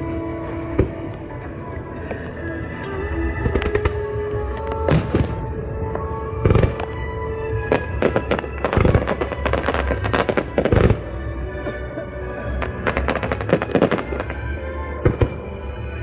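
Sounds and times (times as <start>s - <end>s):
fireworks bursting: 0.0s - 16.0s
music: 0.0s - 16.0s.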